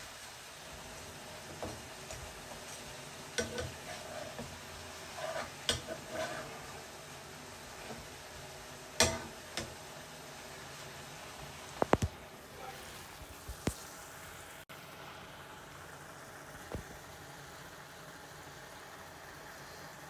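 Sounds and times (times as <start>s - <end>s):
fish frying in oil: 0.0s - 20.0s.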